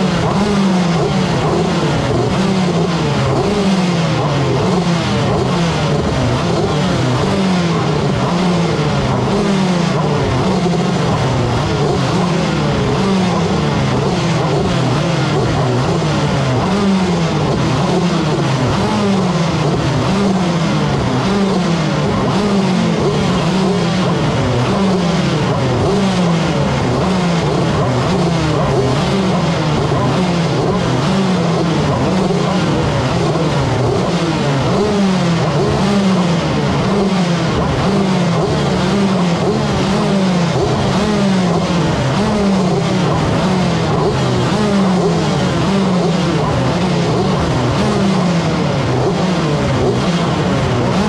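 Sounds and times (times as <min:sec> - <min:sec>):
kart engines revving: 0:00.0 - 0:51.0.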